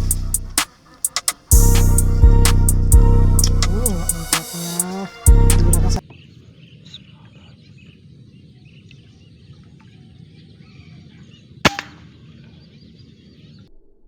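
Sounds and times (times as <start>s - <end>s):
low outdoor background: 0.0s - 13.7s.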